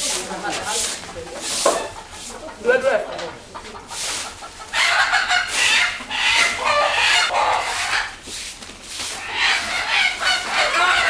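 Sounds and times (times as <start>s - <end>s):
chickens clucking and cackling: 0.0s - 11.0s.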